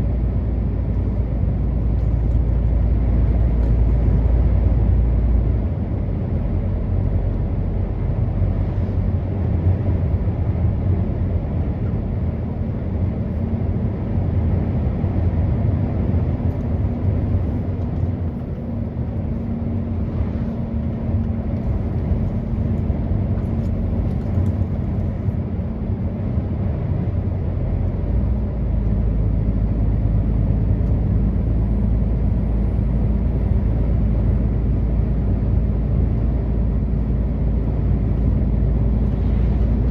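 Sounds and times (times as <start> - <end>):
road noise: 0.0 - 39.9
truck engine running: 0.0 - 39.9.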